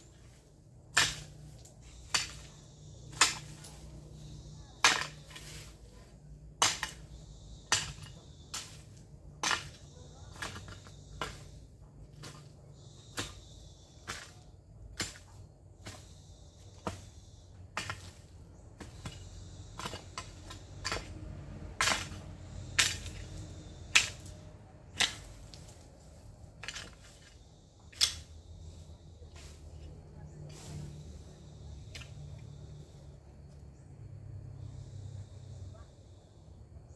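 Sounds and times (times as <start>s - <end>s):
hoe chopping into ground: 0.0s - 33.0s.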